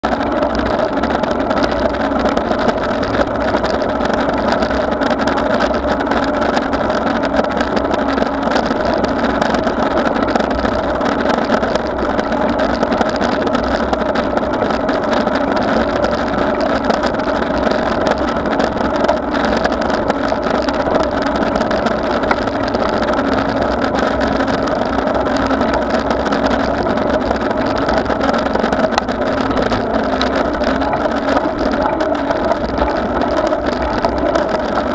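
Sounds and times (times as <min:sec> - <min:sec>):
constant hum: 0:00.0 - 0:34.9
wind and road noise: 0:00.0 - 0:34.9.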